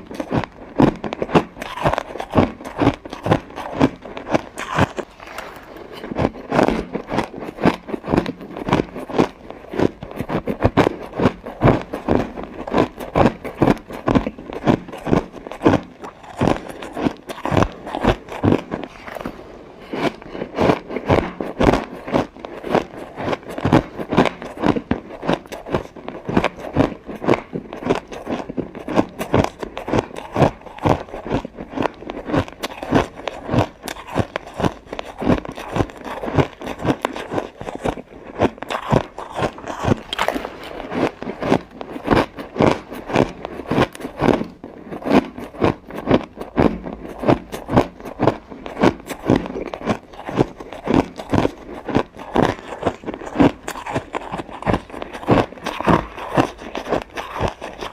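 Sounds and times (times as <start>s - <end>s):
ice crunching between teeth: 0.0s - 57.9s.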